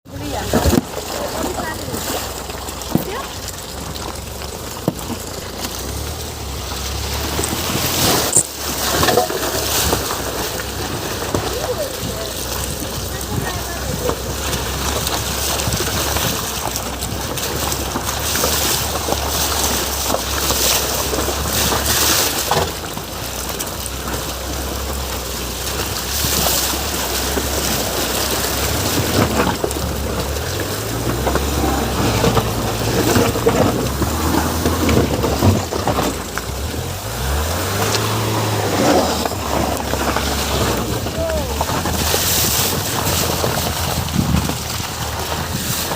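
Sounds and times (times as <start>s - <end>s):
car engine droning and revving: 0.0s - 45.9s
road and body noise: 0.0s - 45.9s.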